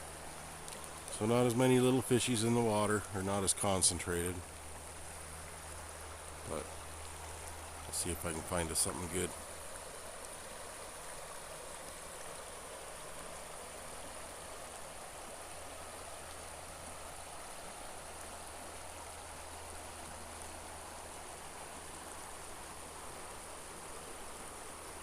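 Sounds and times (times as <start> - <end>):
river rushing water: 0.0 - 25.0.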